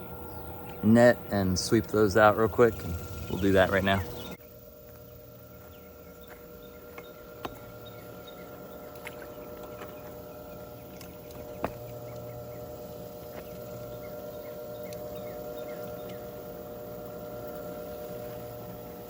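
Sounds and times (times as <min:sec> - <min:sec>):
pool filter pump humming: 0:00.0 - 0:19.0.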